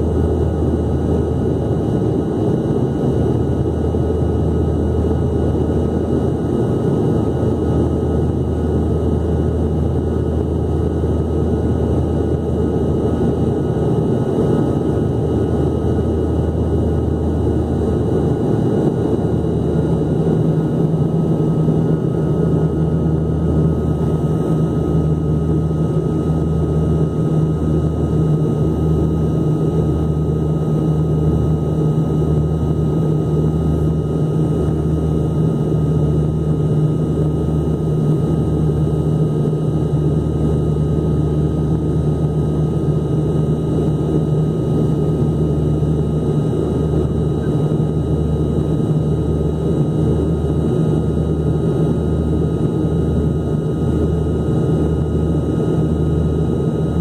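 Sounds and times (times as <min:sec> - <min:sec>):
airliner engine drone in cabin: 0:00.0 - 0:57.0
low throbbing hum: 0:00.0 - 0:57.0.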